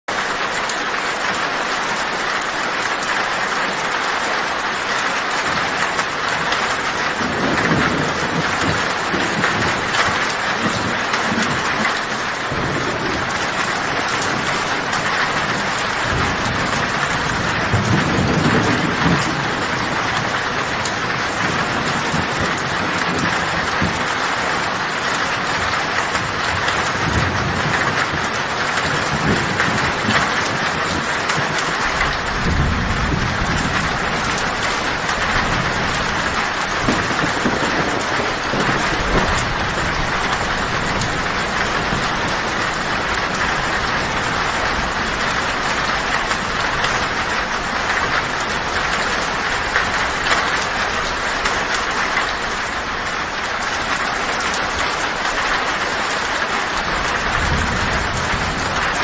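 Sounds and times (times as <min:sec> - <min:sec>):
heavy rain on a tin roof: 0:00.0 - 0:59.0
thunder rumbling: 0:00.2 - 0:59.0.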